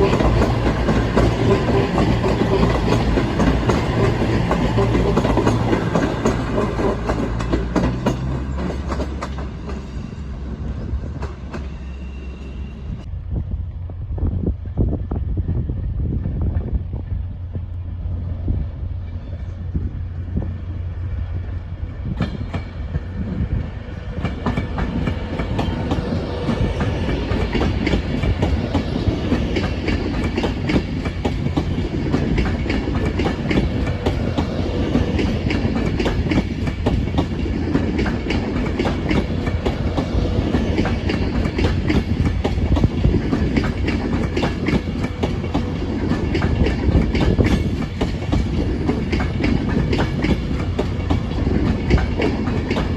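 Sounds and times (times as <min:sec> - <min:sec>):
train rumbling past: 0:00.0 - 0:52.9.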